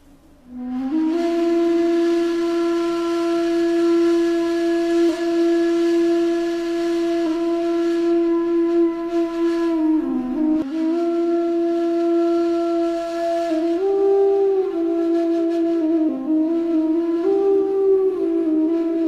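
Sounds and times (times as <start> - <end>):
flute-like wind instrument: 0.4 - 19.0.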